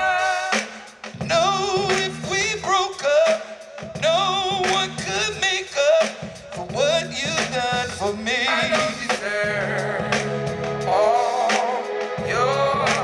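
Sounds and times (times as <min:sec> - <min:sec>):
instrumental accompaniment with bass: 0:00.0 - 0:03.0, 0:03.8 - 0:05.6, 0:06.2 - 0:13.0.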